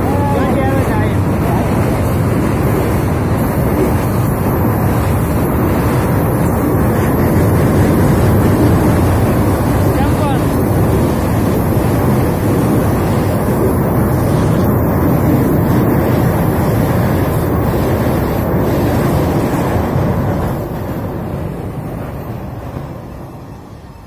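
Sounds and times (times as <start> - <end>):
freight train rumbling over bridge: 0.0 - 24.0.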